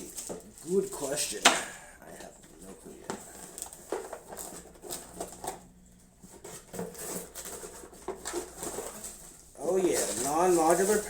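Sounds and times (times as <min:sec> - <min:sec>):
computer parts and packaging handled: 0:00.0 - 0:11.0.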